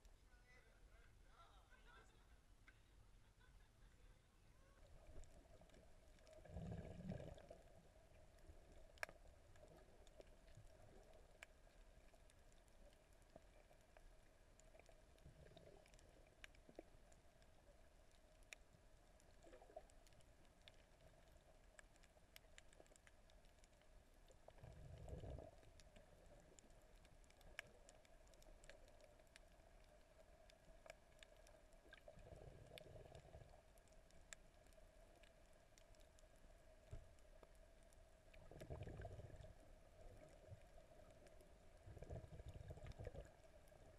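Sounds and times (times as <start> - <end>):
steady low underwater hum: 0.0 - 43.9
rumbling of moving water: 3.2 - 43.9
faint clicks: 4.8 - 43.9.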